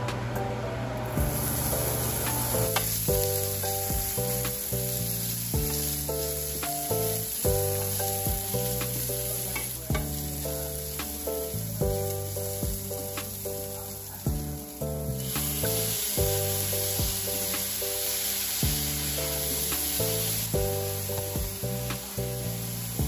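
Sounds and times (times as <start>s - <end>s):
gentle background music: 0.0s - 23.0s
meat sizzling in a skillet: 1.2s - 23.0s.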